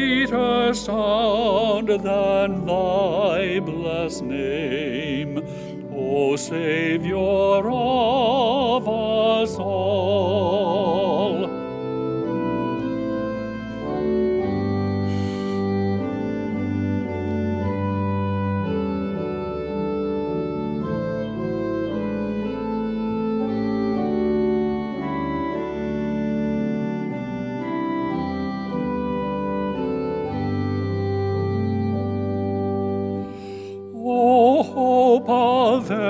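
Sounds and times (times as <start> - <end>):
church organ playing chords: 0.0 - 36.0.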